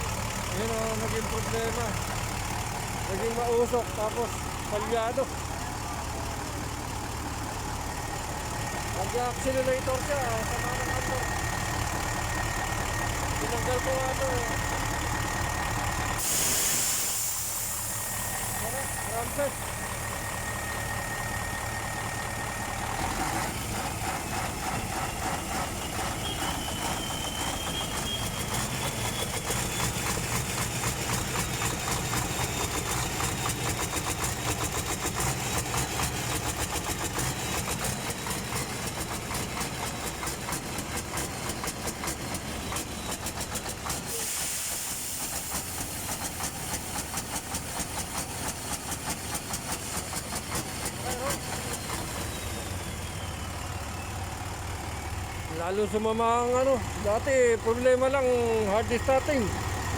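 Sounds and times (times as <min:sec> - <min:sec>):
diesel truck engine pulsing: 0:00.0 - 0:59.9.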